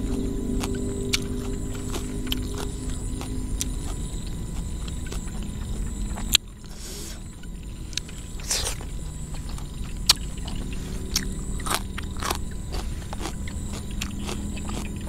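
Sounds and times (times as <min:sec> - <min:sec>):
low rumble: 0:00.0 - 0:15.0
thin high whine: 0:00.0 - 0:15.0.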